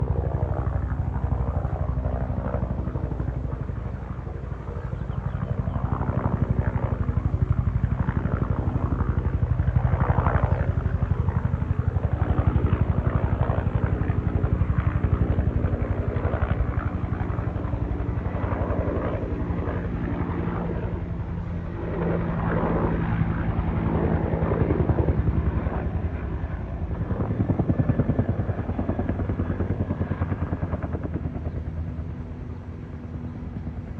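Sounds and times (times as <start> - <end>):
helicopter rotor blades chopping: 0.0 - 33.9.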